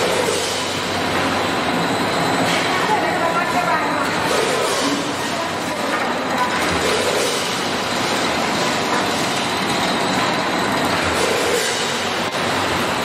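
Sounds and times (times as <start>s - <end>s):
rushing noise of fans and machinery: 0.0s - 13.0s.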